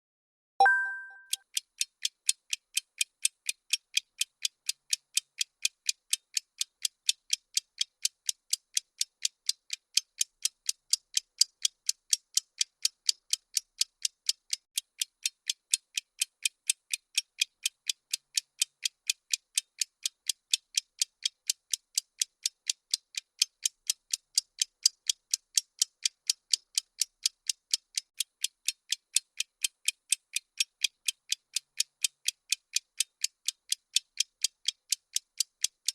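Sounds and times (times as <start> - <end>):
bomb timer ticking: 0.6 - 35.9.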